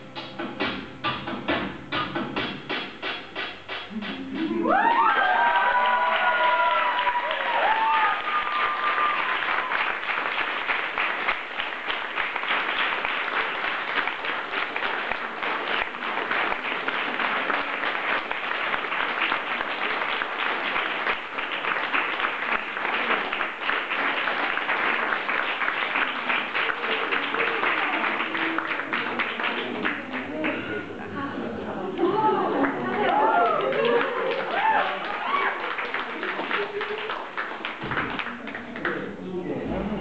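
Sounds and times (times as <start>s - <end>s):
audience applauding: 4.6s - 30.8s, 32.0s - 39.2s.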